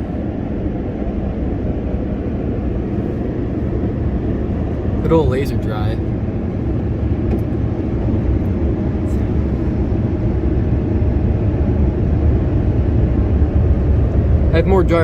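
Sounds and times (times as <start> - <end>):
blower dryer rushing air: 0.0 - 15.0.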